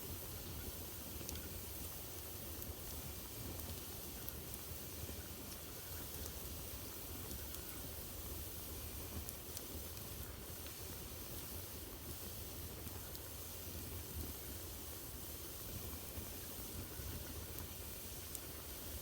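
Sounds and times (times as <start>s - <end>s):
faint fire crackles: 0.0s - 19.0s
wood fire burning: 0.0s - 19.0s.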